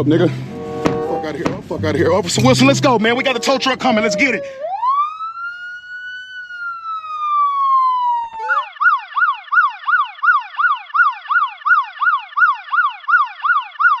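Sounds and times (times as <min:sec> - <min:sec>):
electronic police siren: 0:02.6 - 0:14.0.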